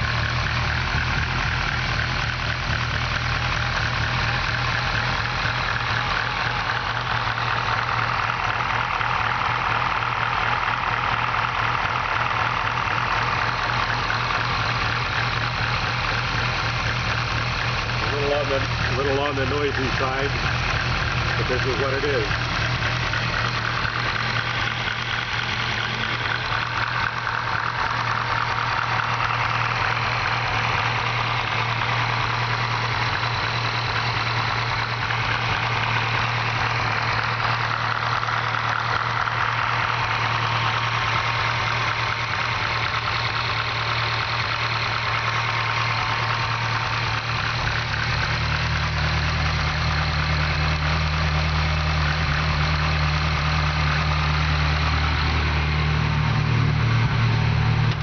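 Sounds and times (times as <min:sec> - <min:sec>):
engine idling: 0:00.0 - 0:58.0
fast ticking lifter clatter: 0:00.0 - 0:58.0.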